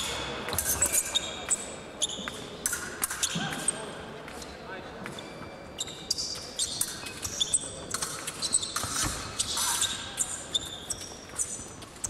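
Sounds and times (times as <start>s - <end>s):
fencing clicks and knocks: 0.0s - 12.0s.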